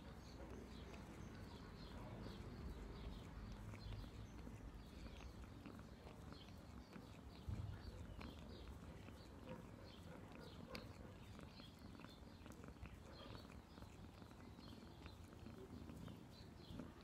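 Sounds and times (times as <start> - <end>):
cat licking its paw: 0.0 - 17.0
cat purring: 0.0 - 17.0
small wet clicks: 0.1 - 17.0.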